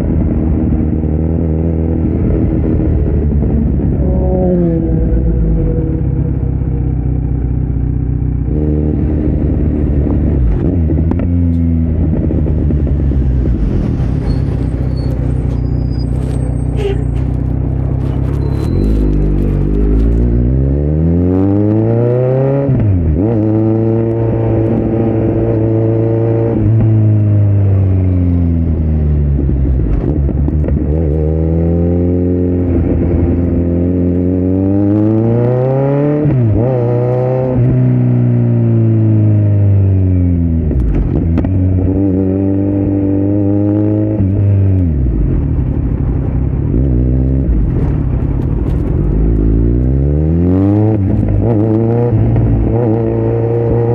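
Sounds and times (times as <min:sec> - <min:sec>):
motorcycle engine accelerating hard: 0:00.0 - 0:15.7, 0:16.7 - 0:53.9.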